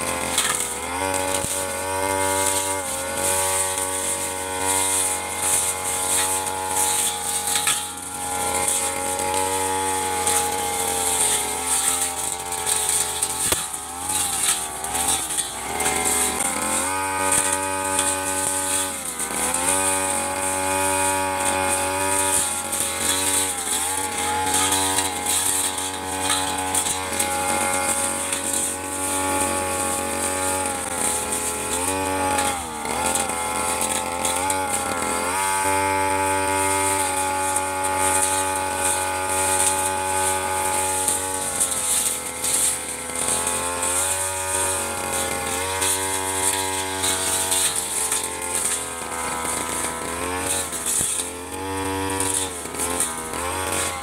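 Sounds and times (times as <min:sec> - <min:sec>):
brush cutter cutting grass: 0:00.0 - 0:54.0.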